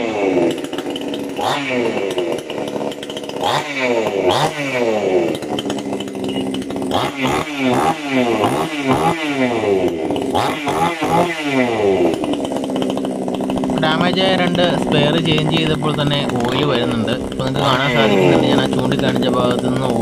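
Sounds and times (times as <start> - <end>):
chainsaw engine revving: 0.0 - 20.0.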